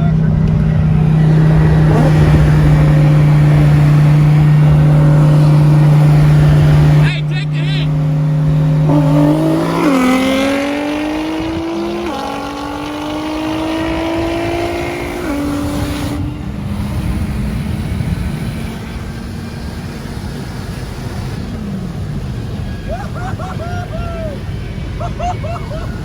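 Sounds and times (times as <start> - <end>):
car engine accelerating hard: 0.0 - 26.0
road rumble: 0.0 - 26.0
wind: 0.0 - 26.0.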